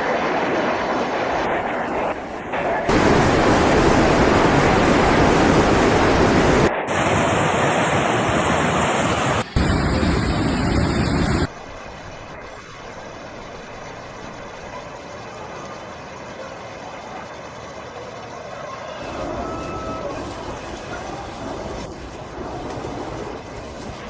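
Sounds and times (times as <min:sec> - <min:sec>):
roar of rushing floodwater: 0:00.0 - 0:24.0.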